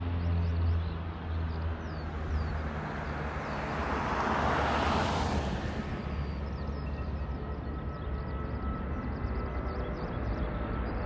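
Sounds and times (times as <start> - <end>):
jet engines roaring at takeoff: 2.1 - 11.0.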